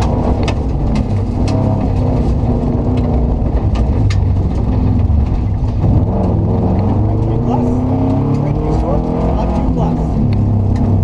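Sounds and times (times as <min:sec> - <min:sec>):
rally car engine under load: 0:00.0 - 0:11.0.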